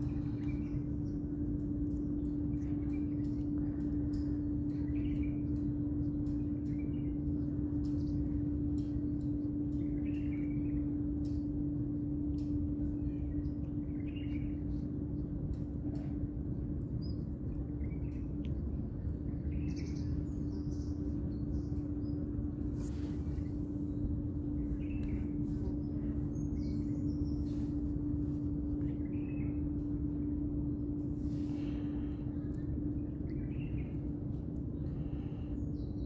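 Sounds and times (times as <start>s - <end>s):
constant hum: 0.0s - 36.0s.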